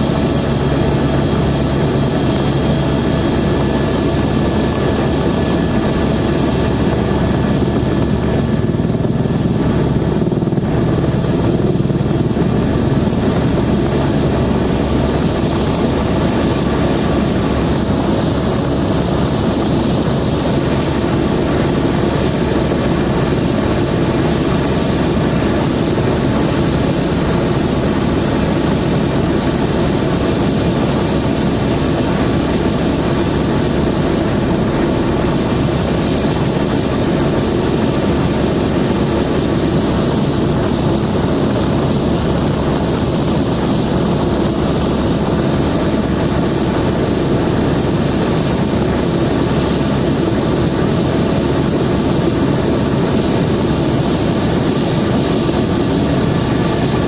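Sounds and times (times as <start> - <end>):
helicopter drone in cabin: 0.0 - 57.0.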